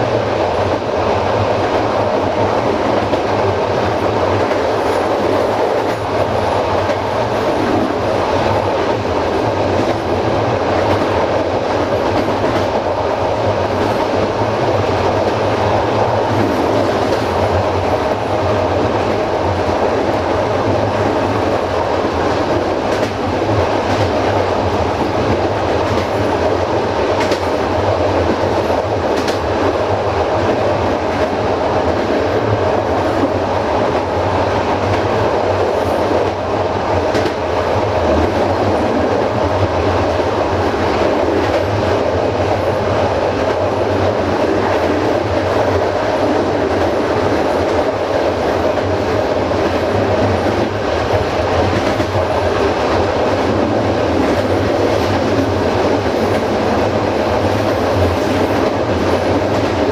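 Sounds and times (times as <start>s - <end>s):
rolling rumble of wheels on rail: 0.0s - 59.9s
wheels clickety-clack over rail joints: 0.0s - 59.9s.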